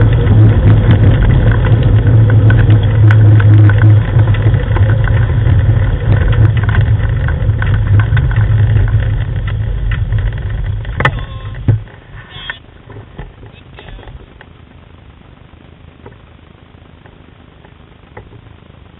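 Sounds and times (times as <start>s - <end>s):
rig rolling over gravel: 0.0s - 18.6s.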